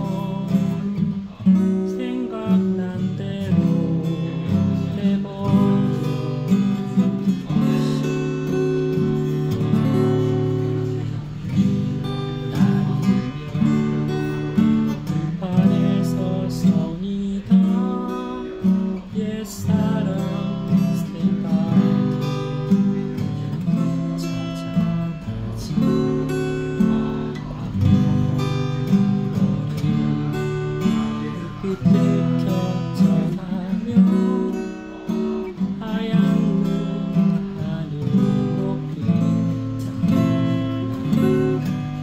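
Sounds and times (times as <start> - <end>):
acoustic guitar chords: 0.0 - 42.0.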